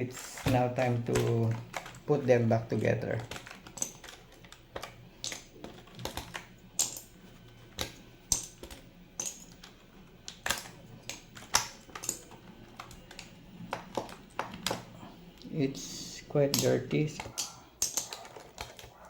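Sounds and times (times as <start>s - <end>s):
keycaps clicking off keyboard: 0.1s - 7.1s, 7.7s - 14.9s, 16.4s - 19.0s.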